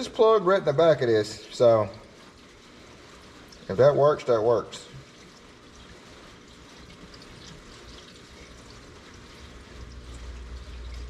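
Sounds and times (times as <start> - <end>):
liquid pouring from jug: 1.2 - 11.0.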